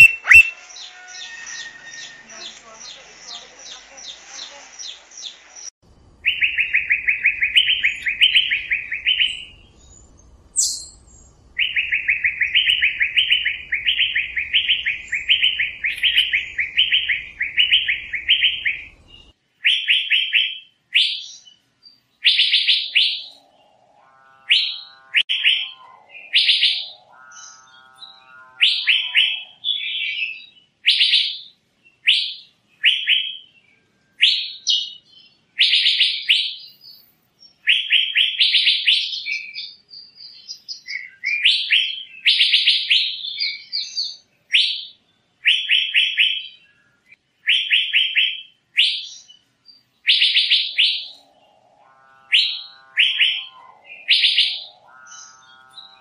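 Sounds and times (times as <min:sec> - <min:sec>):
bird calling: 0:00.0 - 0:21.4, 0:22.2 - 0:33.6, 0:34.2 - 0:49.4, 0:50.0 - 0:56.0.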